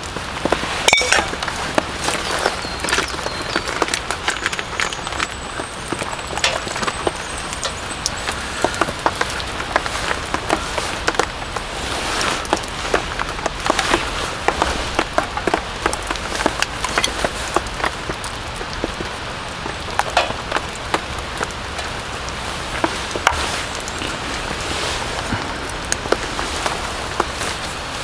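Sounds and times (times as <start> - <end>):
rain falling on a tent: 0.0 - 28.0.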